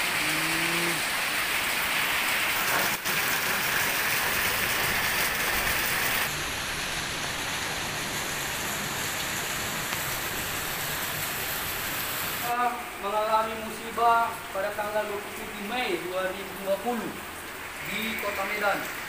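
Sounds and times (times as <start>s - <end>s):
floodwater running and splashing: 0.0s - 19.0s
heavy rain pouring: 0.0s - 19.0s.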